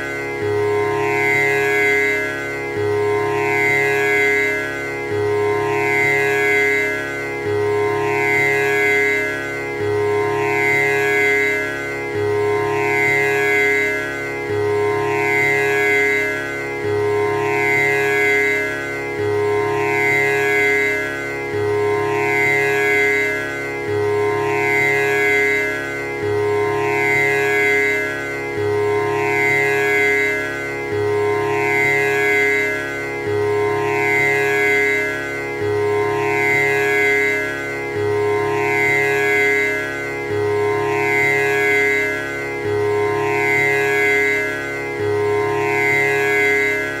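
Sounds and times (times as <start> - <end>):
tanpura drone: 0.0 - 47.0.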